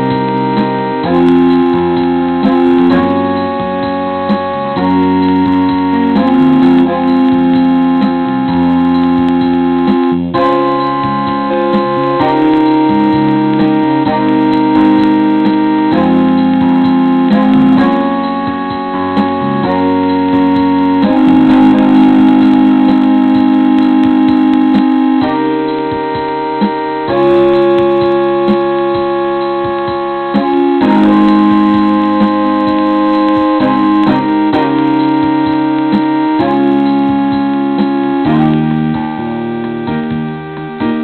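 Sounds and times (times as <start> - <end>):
keyboard chords: 0.0 - 41.0.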